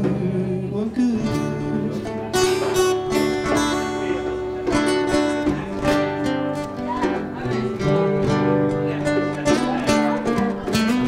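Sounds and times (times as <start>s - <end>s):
acoustic guitars strumming: 0.0s - 11.0s.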